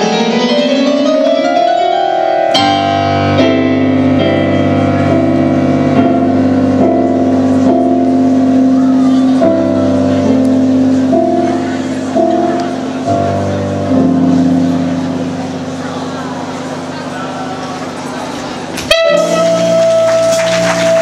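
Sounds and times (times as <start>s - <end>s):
electronic piano runs and chords: 0.0s - 21.0s.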